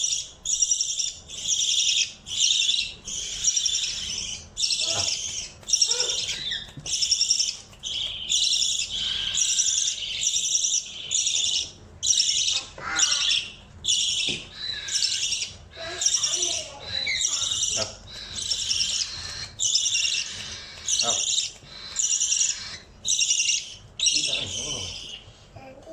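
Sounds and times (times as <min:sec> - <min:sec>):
budgerigar harsh high calls: 0:00.0 - 0:25.2.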